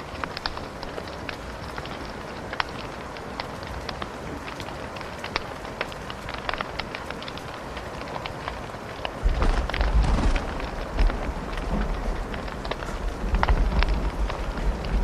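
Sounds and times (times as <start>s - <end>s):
rain hissing: 0.0s - 15.0s
thunder rumbling: 0.0s - 15.0s
wood fire crackling and popping: 0.0s - 15.0s.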